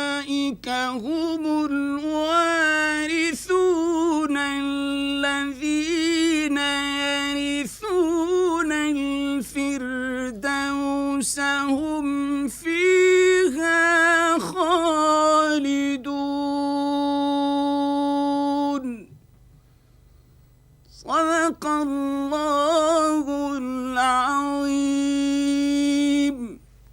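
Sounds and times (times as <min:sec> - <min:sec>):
man chanting melodically: 0:00.0 - 0:19.1, 0:20.9 - 0:26.6.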